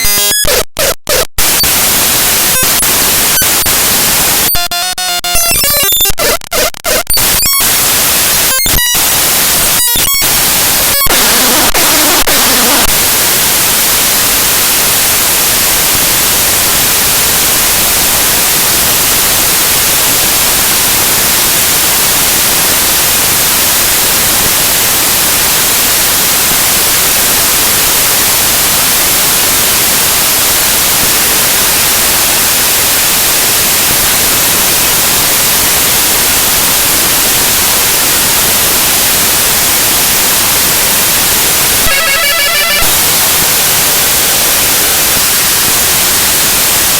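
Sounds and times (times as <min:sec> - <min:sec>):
loud static hiss: 0:00.0 - 0:46.9.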